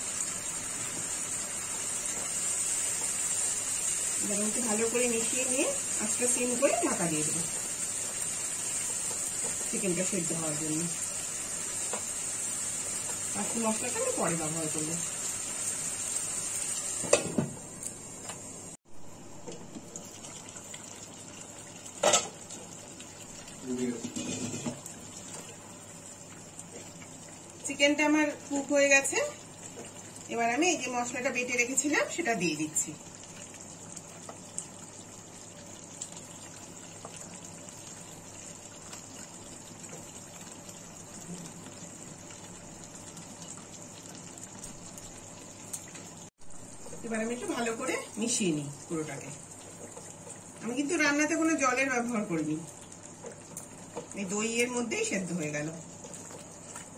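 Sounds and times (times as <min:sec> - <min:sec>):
gravy sizzling in a pan: 0:00.0 - 0:56.9.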